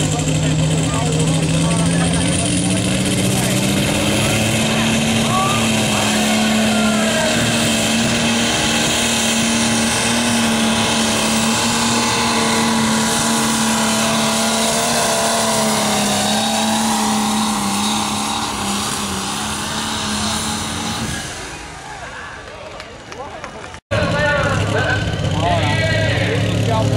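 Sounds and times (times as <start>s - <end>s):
tractor engine running hard: 0.0s - 22.0s, 23.9s - 26.9s.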